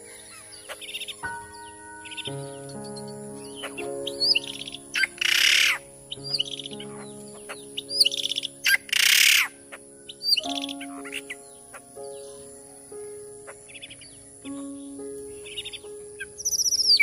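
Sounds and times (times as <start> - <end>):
background music with held notes: 0.0 - 17.0
harsh bird calls: 0.0 - 17.0
high chirping trills: 0.0 - 17.0.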